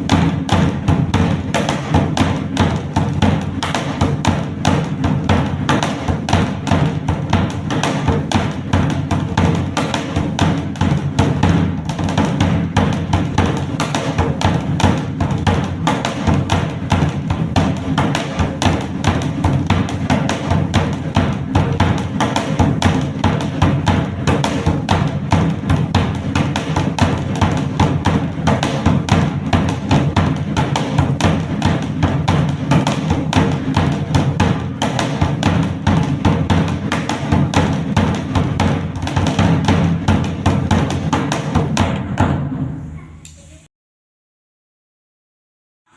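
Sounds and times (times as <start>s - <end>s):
barrel drum beaten with sticks: 0.0s - 42.7s.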